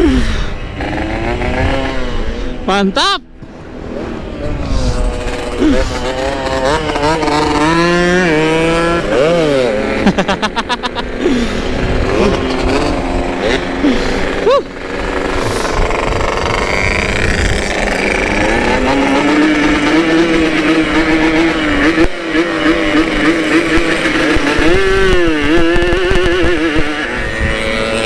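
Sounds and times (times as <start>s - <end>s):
two-stroke motorcycle engines: 0.0s - 28.0s
wind and road noise: 0.0s - 28.0s.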